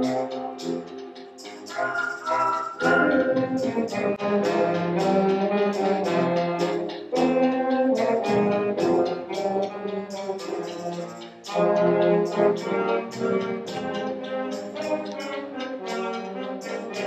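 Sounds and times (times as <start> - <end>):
brass and woodwind chords: 0.0 - 17.0
percussion strikes: 0.0 - 17.0.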